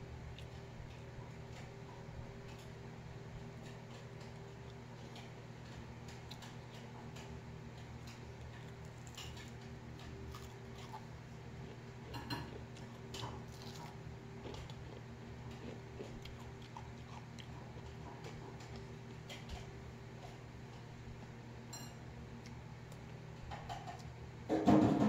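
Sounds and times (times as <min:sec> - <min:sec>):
chewing crackles: 0:00.3 - 0:02.8, 0:03.4 - 0:21.3.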